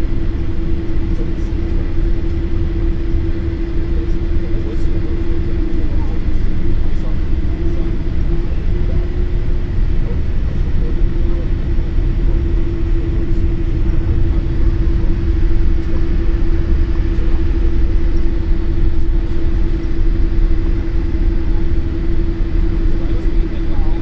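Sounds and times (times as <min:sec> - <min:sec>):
airliner cabin rumble: 0:00.0 - 0:24.0
constant hum: 0:00.0 - 0:24.0.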